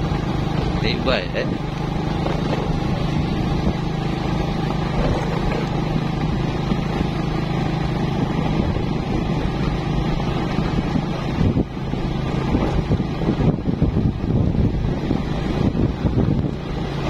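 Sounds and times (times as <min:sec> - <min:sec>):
motorcycle engine cruising: 0:00.0 - 0:17.0
road noise on gravel: 0:00.0 - 0:17.0.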